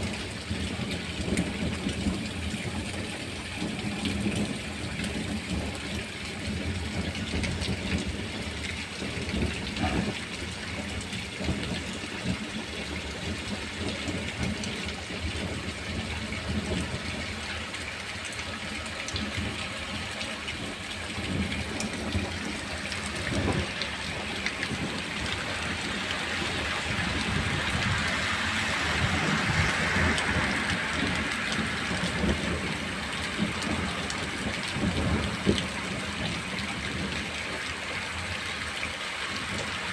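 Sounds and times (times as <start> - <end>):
heavy rain on paving and roofs: 0.0 - 39.9.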